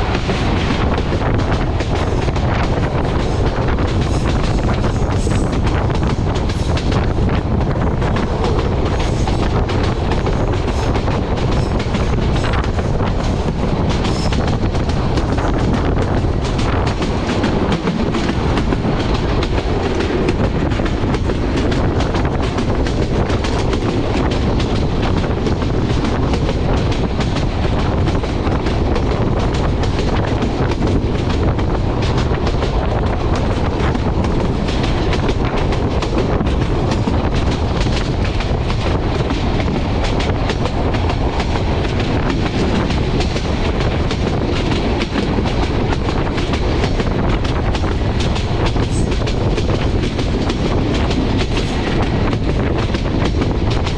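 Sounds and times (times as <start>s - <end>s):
train rumbling at speed: 0.0s - 53.9s.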